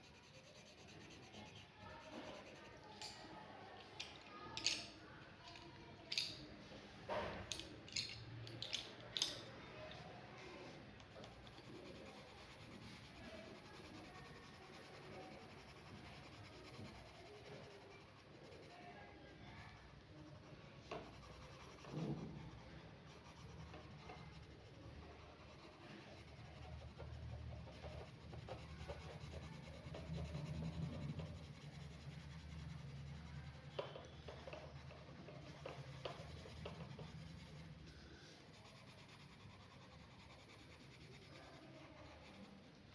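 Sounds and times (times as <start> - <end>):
pen scratching on paper: 0.0 - 3.0, 11.1 - 42.8.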